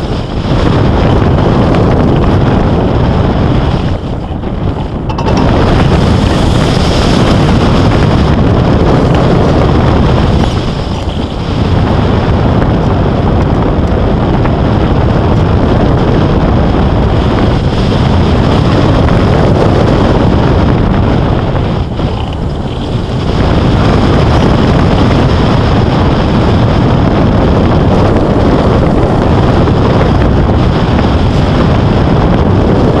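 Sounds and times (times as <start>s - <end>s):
loud wind rushing over microphone: 0.0s - 33.0s.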